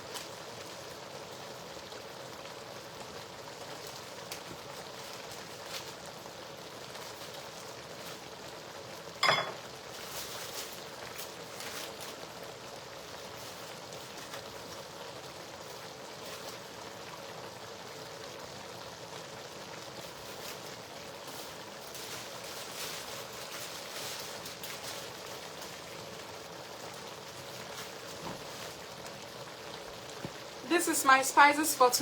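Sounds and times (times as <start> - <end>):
food bubbling and sizzling in pot: 0.0 - 32.0.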